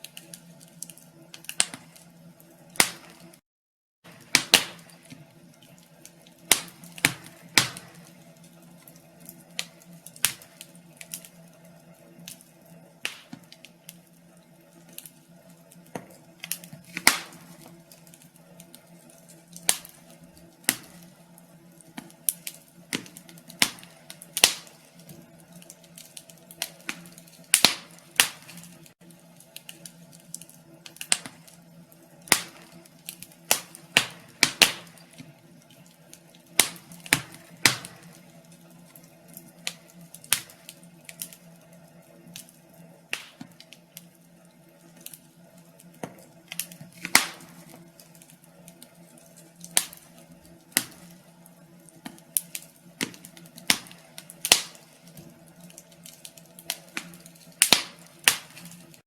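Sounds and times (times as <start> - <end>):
wood fire crackling: 0.0 - 3.4, 4.0 - 59.0.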